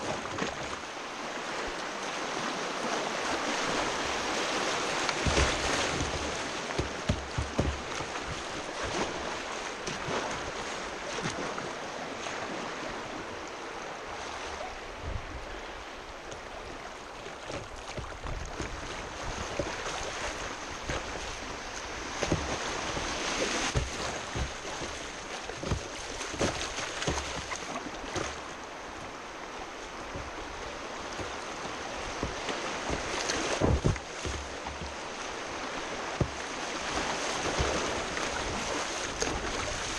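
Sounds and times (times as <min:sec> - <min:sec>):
splashes and knocks against hull: 0:00.0 - 0:12.6, 0:16.2 - 0:39.9
rushing whitewater: 0:00.0 - 0:39.9.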